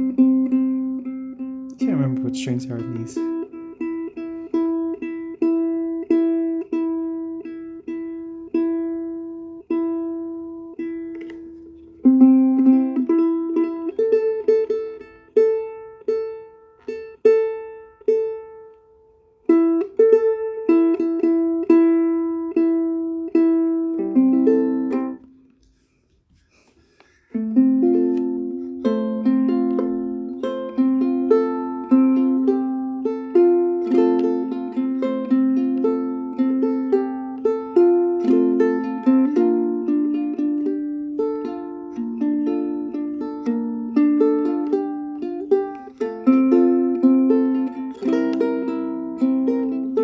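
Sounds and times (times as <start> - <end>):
ukulele playing: 0.0 - 25.9, 27.2 - 50.0.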